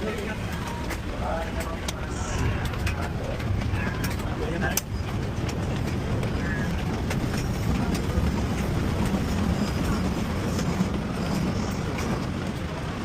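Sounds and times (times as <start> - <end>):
train rumbling at station: 0.0 - 13.0.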